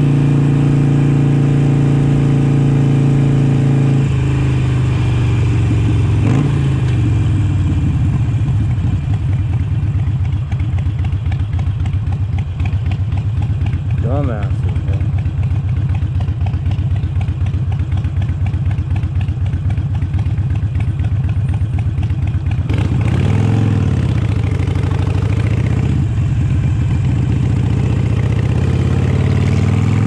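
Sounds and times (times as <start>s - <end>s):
motorcycle engine: 0.0s - 30.0s.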